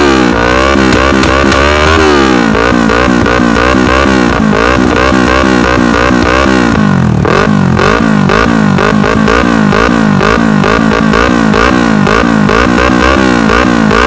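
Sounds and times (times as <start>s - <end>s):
motorcycle engine revving: 0.0s - 14.0s
exhaust crackling pops: 0.4s - 14.0s.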